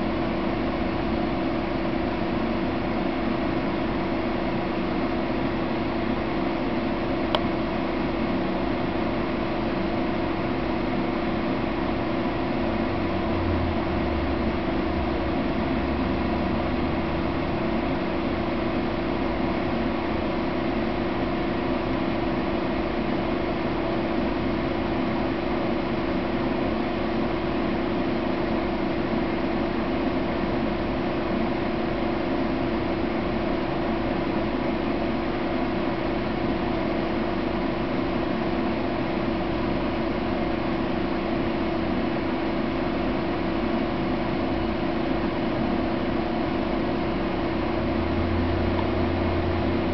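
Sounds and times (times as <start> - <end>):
machine hum with low tone: 0.0 - 49.9.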